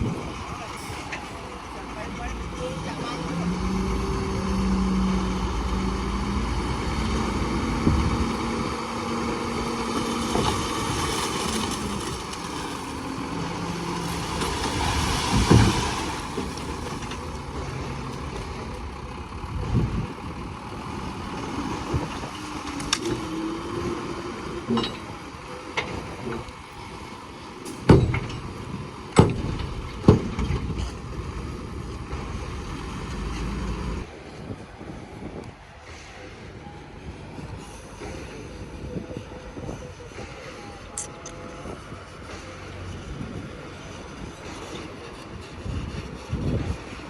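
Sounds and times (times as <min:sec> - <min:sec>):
diesel engines running: 0:00.0 - 0:47.0.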